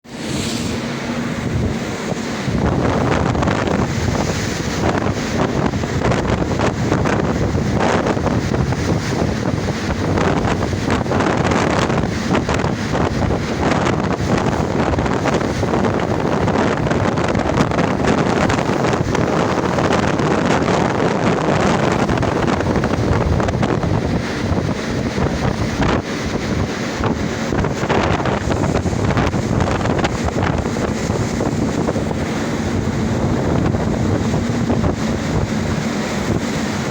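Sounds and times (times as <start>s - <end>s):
sea water rushing past ship: 0.0s - 36.9s
wind on microphone: 0.0s - 36.9s.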